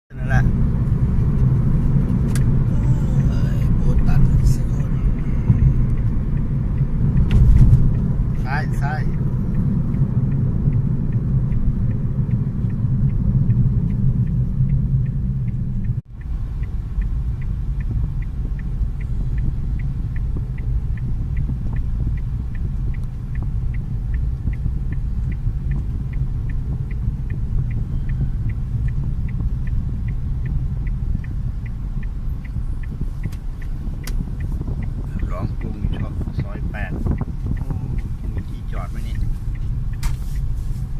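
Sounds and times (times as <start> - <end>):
car engine and road noise: 0.0 - 40.9
faint even ticking: 0.1 - 40.9.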